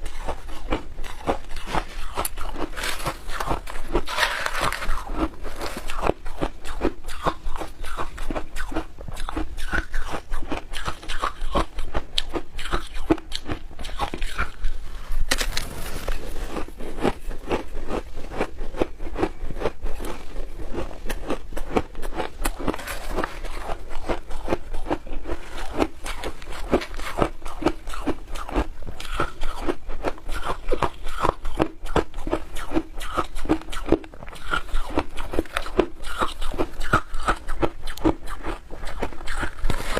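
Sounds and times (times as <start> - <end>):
teeth crunching shaved ice: 0.0 - 39.9.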